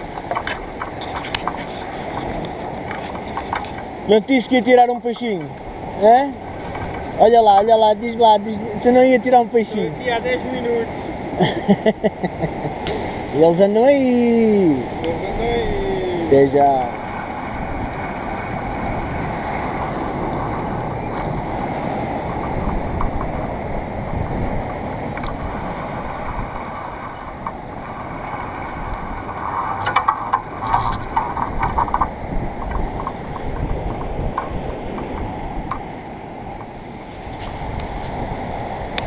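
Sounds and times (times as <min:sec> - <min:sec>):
surf breaking over rocks: 0:00.0 - 0:11.5, 0:12.6 - 0:39.0
wind rumbling on microphone: 0:00.0 - 0:39.0.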